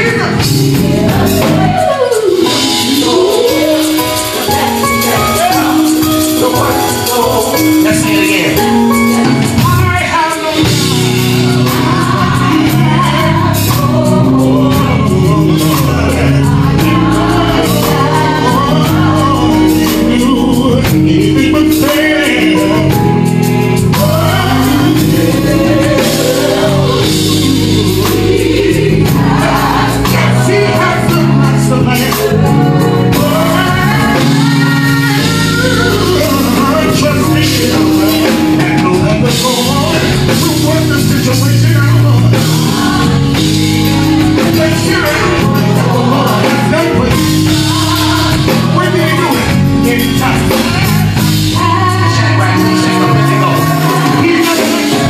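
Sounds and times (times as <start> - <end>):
band accompaniment: 0.0 - 55.0
gospel singing: 0.0 - 55.0.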